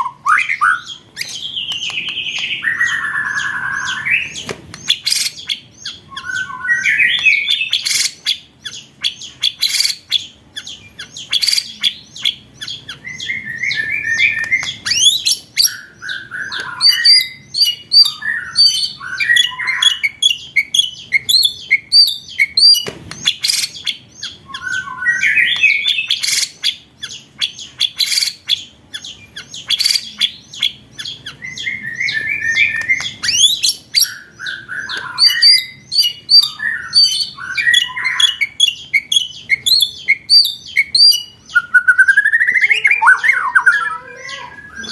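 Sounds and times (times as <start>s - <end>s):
songbird clicking and chattering: 0.0s - 6.5s, 7.1s - 44.9s
rising whistled bird phrases: 0.0s - 8.1s, 11.1s - 26.8s, 31.3s - 44.9s.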